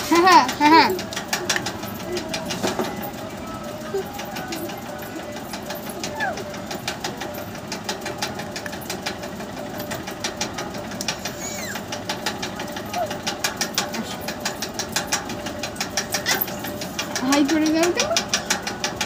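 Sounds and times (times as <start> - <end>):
rapid clicks: 0.0 - 19.0.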